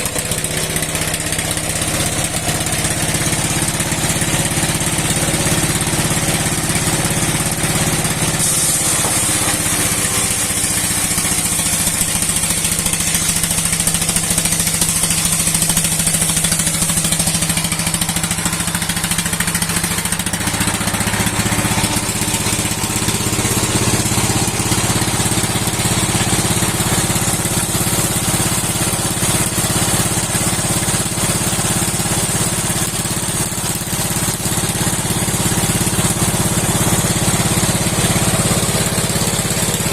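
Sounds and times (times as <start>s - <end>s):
engine running: 0.0s - 39.9s
spinning saw: 0.0s - 39.9s.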